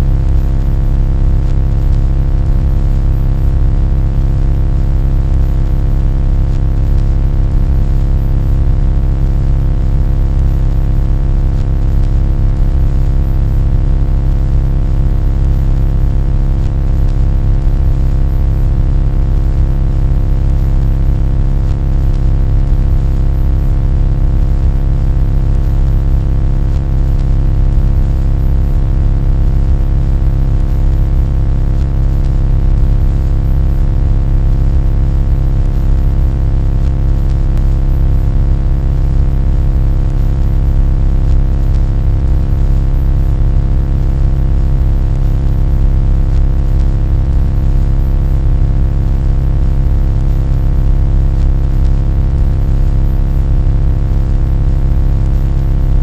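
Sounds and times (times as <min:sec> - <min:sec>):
low-pitched droning hum: 0:00.0 - 0:50.4, 0:51.0 - 0:52.6.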